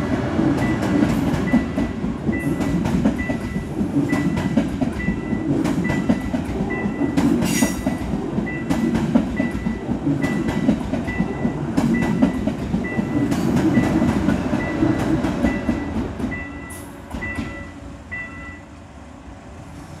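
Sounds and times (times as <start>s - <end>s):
train rumbling past: 0.0s - 20.0s
wheels clicking over rail joints: 0.5s - 18.6s.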